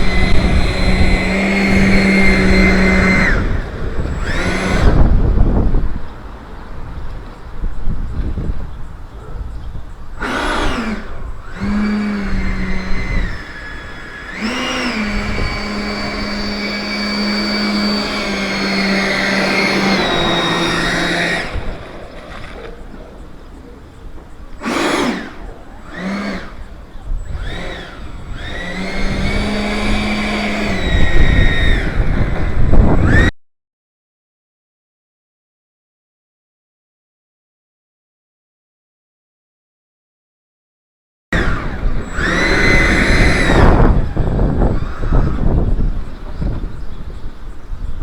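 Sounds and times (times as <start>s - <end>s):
model jet fan whining: 0.0s - 33.3s, 41.4s - 48.0s.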